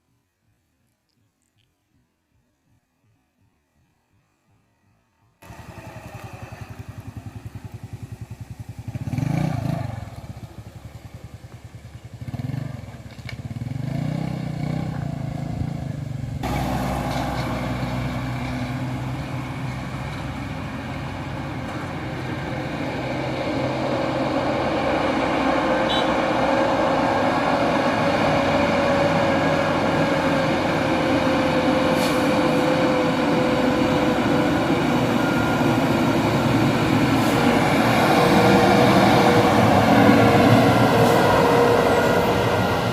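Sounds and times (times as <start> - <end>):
dump truck diesel engines: 5.4 - 42.9.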